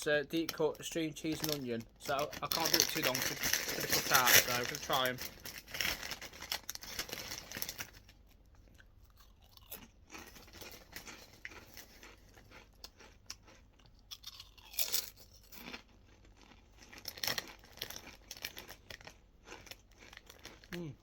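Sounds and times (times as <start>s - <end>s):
crisps crunching and chewing: 0.3s - 21.0s.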